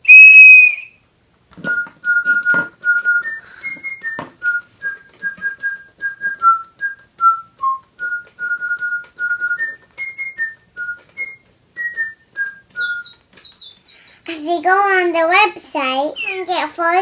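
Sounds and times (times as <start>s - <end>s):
toy bird whistled melody: 0.0s - 1.0s, 1.6s - 14.2s, 16.1s - 16.6s.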